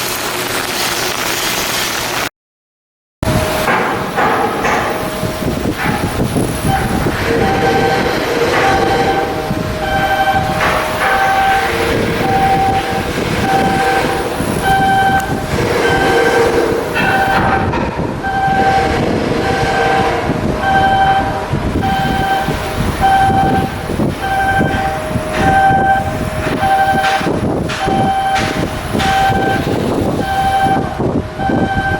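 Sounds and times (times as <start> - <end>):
machinery noise: 3.2 - 31.9
low hum: 3.3 - 31.8
electronic warning beeps: 3.3 - 31.9.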